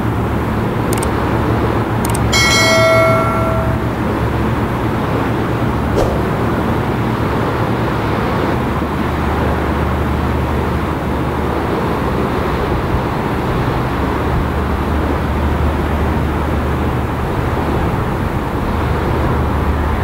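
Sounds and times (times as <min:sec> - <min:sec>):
ship diesel engines droning: 0:00.0 - 0:20.0.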